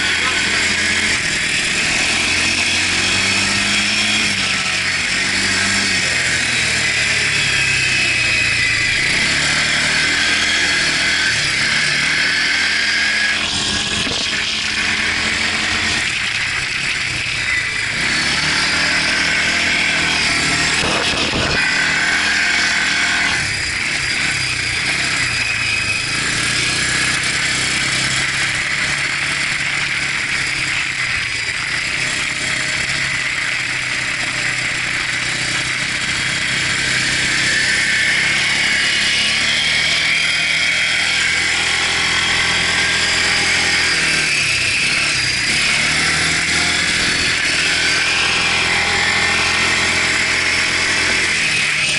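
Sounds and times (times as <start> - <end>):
quad bike engine revving: 0.0 - 51.9.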